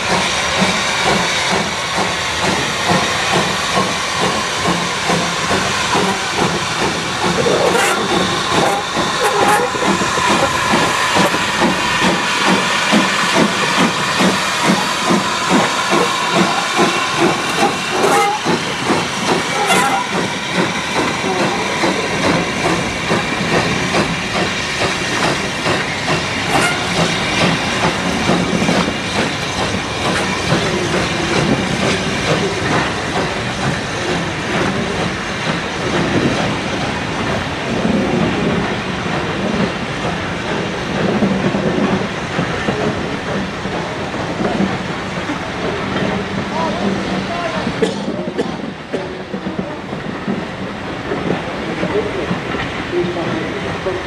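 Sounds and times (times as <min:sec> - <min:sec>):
steam hissing: 0:00.0 - 0:54.0
steam locomotive exhaust beats: 0:00.0 - 0:54.0.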